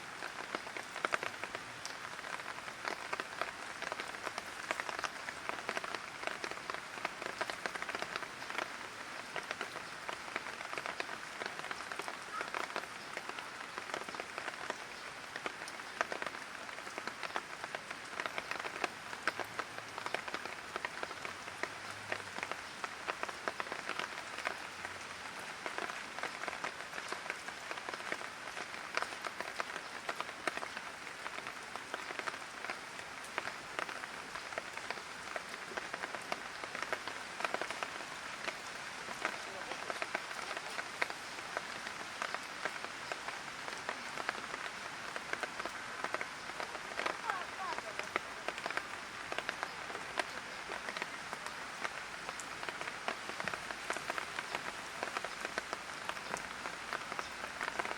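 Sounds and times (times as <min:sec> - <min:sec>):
light rain pattering on hard surfaces: 0:00.0 - 0:57.9.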